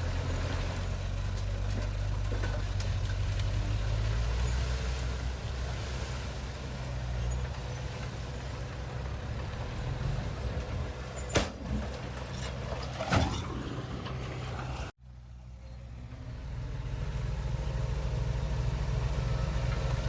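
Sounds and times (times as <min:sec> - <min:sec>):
heavy diesel engine humming: 0:00.0 - 0:20.0.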